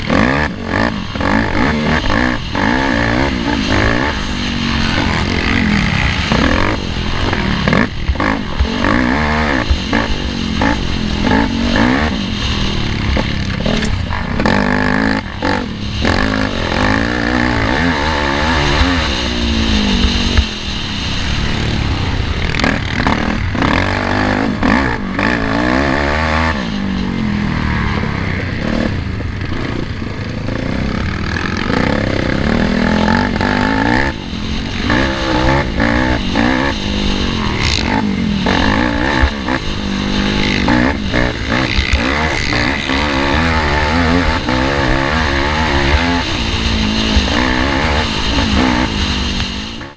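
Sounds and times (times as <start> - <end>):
quad engine revving: 0.0 - 49.9.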